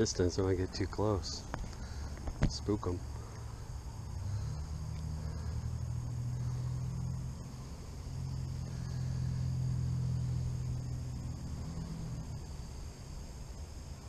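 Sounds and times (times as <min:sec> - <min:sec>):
insects buzzing: 0:00.0 - 0:14.0
low engine rumble: 0:00.0 - 0:14.0.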